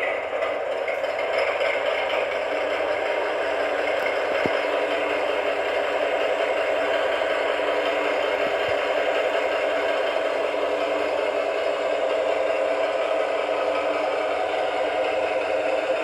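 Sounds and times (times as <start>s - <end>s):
diesel engine idling through small speaker: 0.0s - 16.0s.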